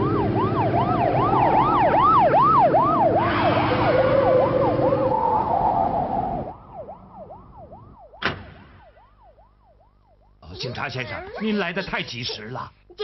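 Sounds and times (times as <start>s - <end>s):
police siren: 0.0s - 10.9s.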